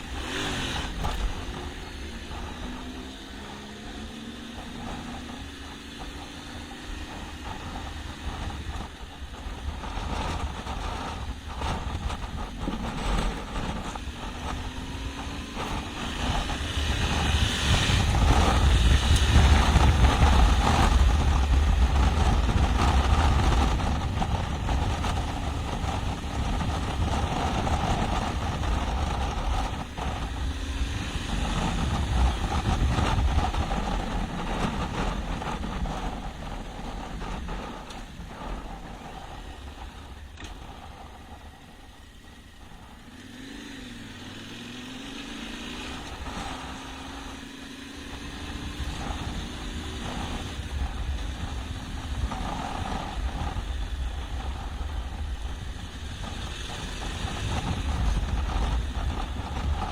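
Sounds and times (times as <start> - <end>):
motorcycle engine off-road: 0.0 - 59.9.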